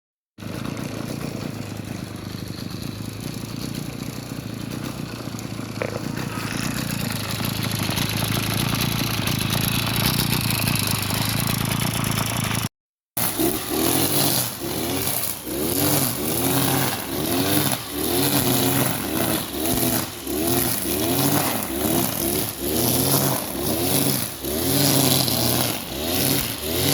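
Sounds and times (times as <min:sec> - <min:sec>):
brush cutter engine running: 0:00.4 - 0:26.9.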